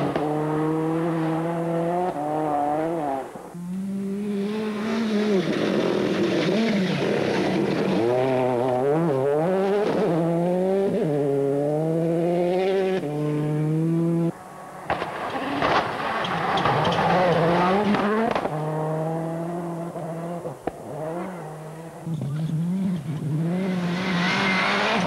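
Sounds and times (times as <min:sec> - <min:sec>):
rally car engine at full throttle: 0:00.0 - 0:25.0.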